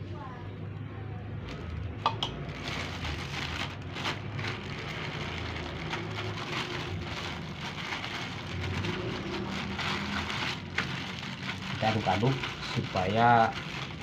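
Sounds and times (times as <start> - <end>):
plastic bag crinkling: 1.4 - 14.0.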